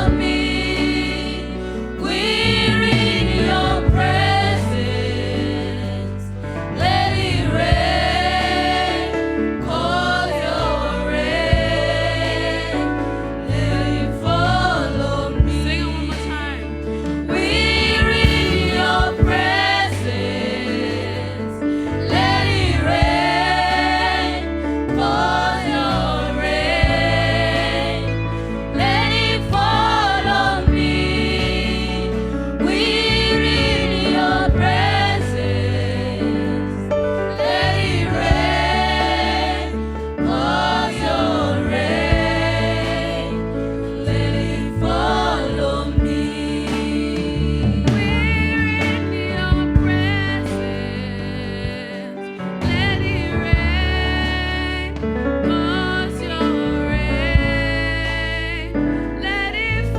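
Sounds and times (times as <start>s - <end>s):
band with bass and keyboard: 0.0s - 59.9s
group of singers singing gospel: 0.0s - 59.9s.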